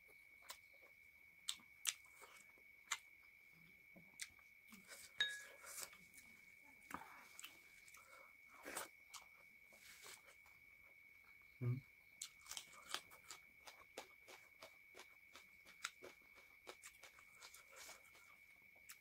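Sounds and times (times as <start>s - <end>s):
person chewing food: 0.4s - 11.1s, 12.1s - 19.0s.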